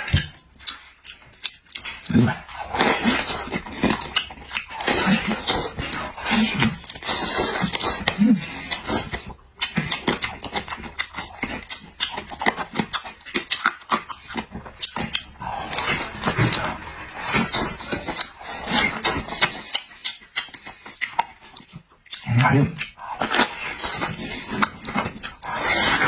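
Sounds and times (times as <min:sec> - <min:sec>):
wet chewing and lip-smacking: 0:00.0 - 0:26.0.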